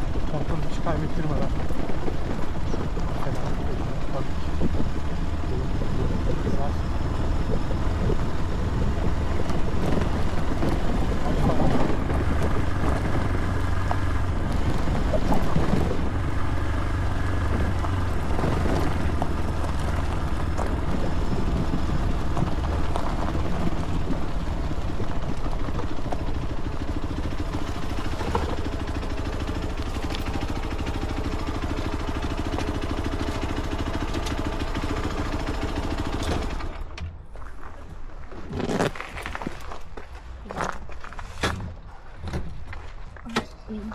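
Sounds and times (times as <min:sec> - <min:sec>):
motorcycle engine running at low revs: 0:00.0 - 0:37.2.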